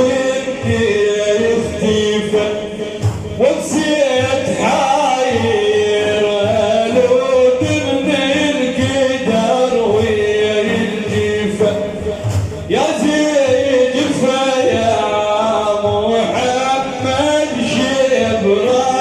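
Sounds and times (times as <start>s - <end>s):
low drumbeat: 0.0s - 19.0s
male voices chanting a song: 0.0s - 19.0s.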